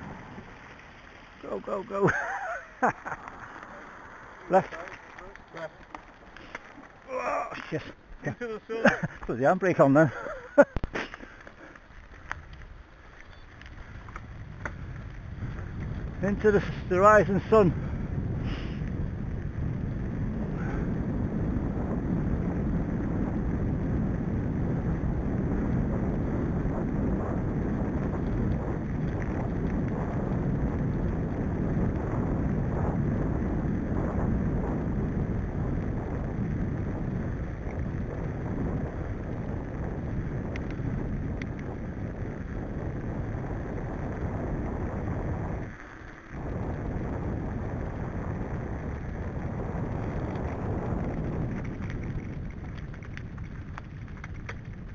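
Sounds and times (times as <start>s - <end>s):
vehicle on gravel: 0.0s - 25.2s, 34.7s - 54.9s
wind buffeting microphone: 0.0s - 54.9s.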